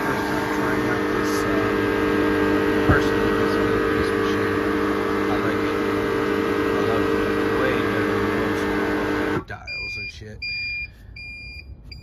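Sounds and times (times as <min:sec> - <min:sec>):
refrigeration equipment hum: 0:00.0 - 0:12.0.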